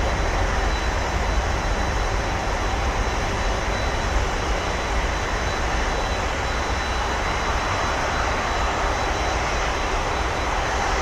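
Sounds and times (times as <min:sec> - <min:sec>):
distant jet engine rumble: 0:00.0 - 0:11.0.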